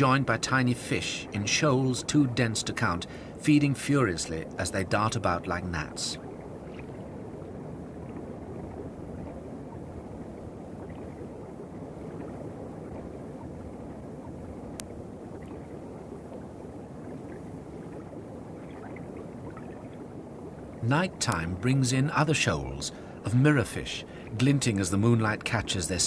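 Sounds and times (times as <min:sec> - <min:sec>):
underwater rushing ambience: 0:00.0 - 0:26.0.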